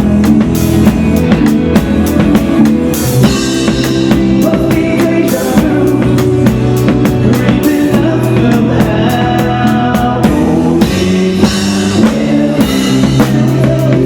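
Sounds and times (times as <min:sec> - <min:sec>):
drum kit steady beat: 0:00.0 - 0:14.0
live band playing: 0:00.0 - 0:14.0.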